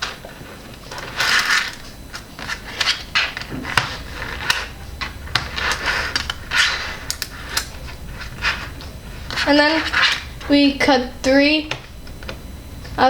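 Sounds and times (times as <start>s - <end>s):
magnetic balls clicking: 0.0s - 13.0s.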